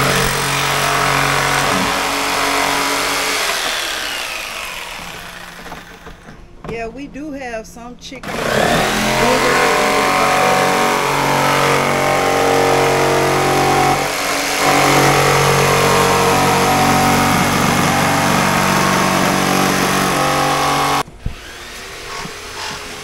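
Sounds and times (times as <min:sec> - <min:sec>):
electric jigsaw cutting plastic: 0:00.0 - 0:06.4, 0:08.2 - 0:23.0.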